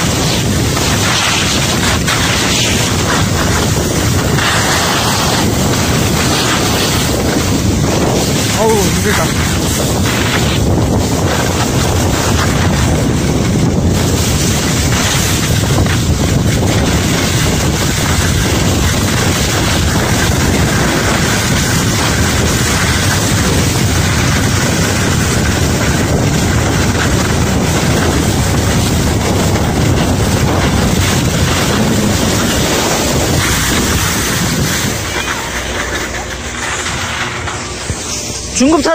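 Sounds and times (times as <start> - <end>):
skis sliding on snow: 0.0 - 38.9
wind buffeting microphone: 0.0 - 38.9.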